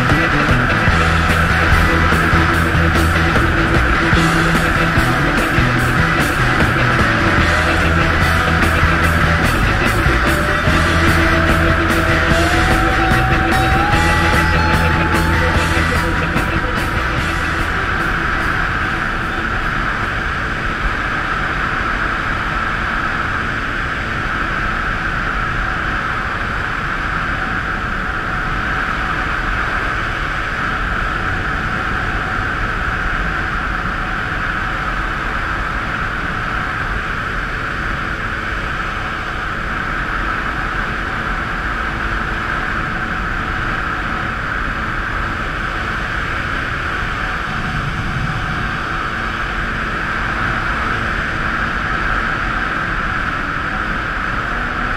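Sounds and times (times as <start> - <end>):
jet ski engine droning: 0.0 - 54.9.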